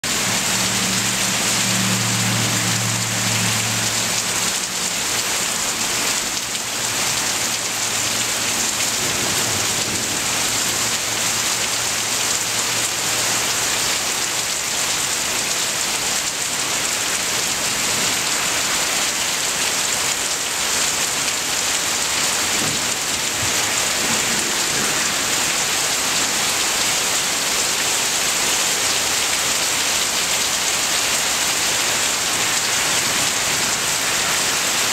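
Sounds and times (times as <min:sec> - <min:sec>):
heavy rain on foliage: 0:00.0 - 0:34.9.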